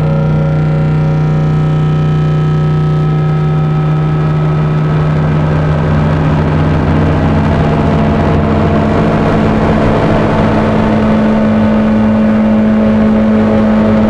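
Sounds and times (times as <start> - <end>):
rough grainy synth noise: 0.0 - 14.0
steady synth tone: 0.0 - 14.0
synth buzzing drone: 0.0 - 14.0.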